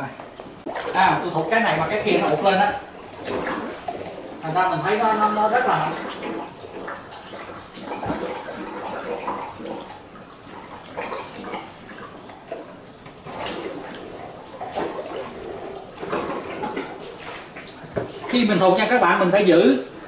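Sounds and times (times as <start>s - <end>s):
plunger pumping over drain: 0.0s - 20.0s
water sloshing and splashing: 0.0s - 20.0s
tap running: 0.1s - 19.6s.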